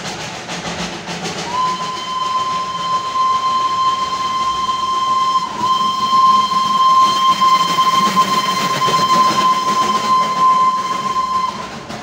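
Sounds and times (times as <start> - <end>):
steam hissing: 0.0 - 12.0
steam locomotive whistle: 1.4 - 12.0.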